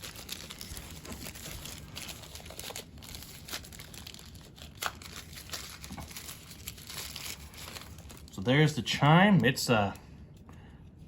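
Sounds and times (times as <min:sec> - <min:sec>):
packaging rustling and crinkling: 0:00.0 - 0:09.9.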